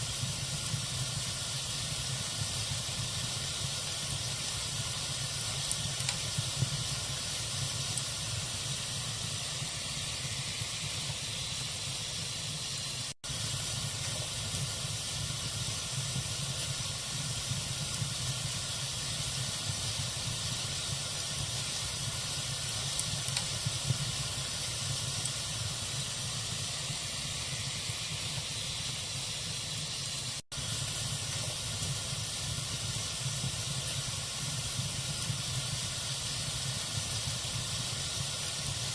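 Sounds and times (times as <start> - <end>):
wood fire hissing and crackling: 0.0 - 38.9.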